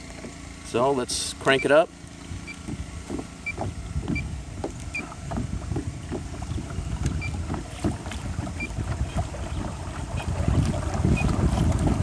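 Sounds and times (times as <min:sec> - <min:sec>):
electric trolling motor: 0:00.0 - 0:12.0
water splashing against kayak hull: 0:00.0 - 0:12.0.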